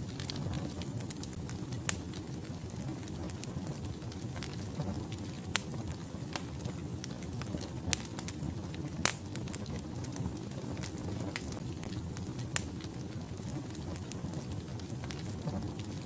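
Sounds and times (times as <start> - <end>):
logs crackling and popping: 0.0 - 16.0
wood fire rumbling: 0.0 - 16.0.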